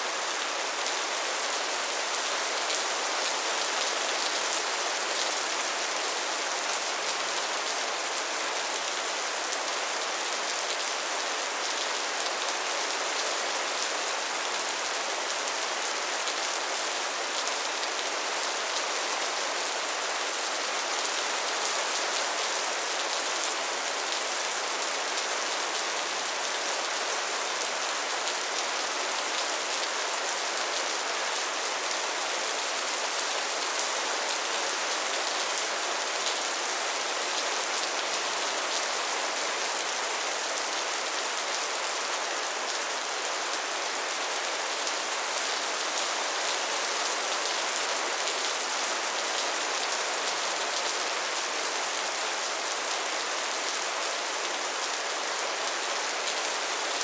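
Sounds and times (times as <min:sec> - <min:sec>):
soft rain falling: 0:00.0 - 0:57.0.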